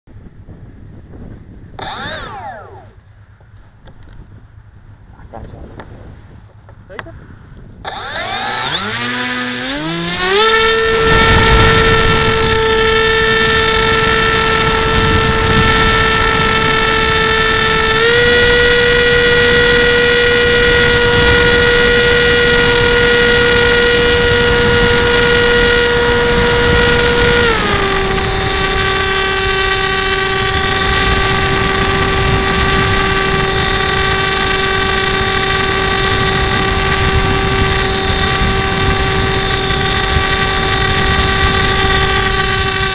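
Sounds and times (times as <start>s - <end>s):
rushing wind: 0.1s - 42.9s
electric motor and propeller whining: 0.9s - 4.4s, 6.7s - 42.9s.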